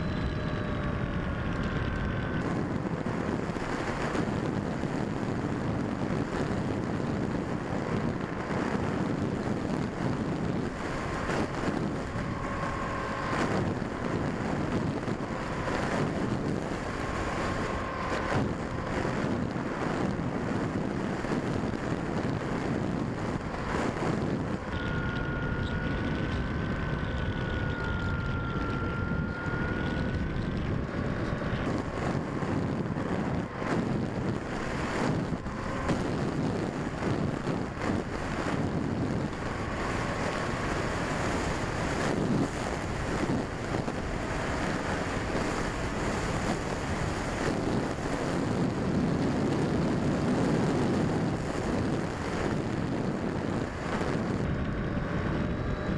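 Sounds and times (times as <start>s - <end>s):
wind rush over microphone: 0.0s - 55.9s.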